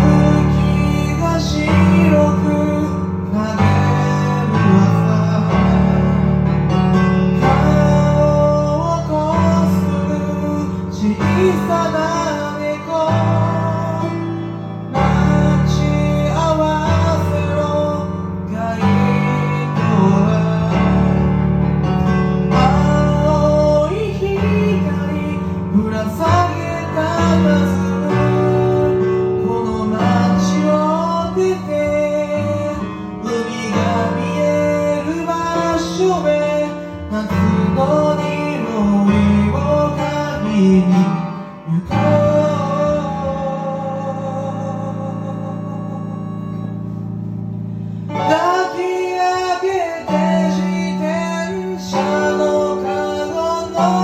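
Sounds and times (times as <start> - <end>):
pop band music: 0.0 - 44.4, 46.7 - 54.0.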